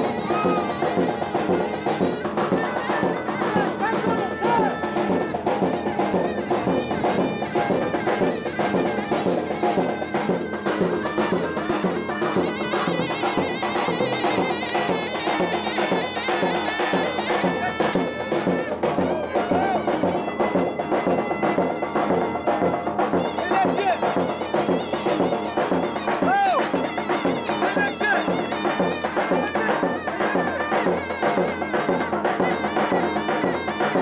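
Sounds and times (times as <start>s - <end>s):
drumming: 0.0s - 34.0s
shrill reed wind instrument: 0.0s - 34.0s.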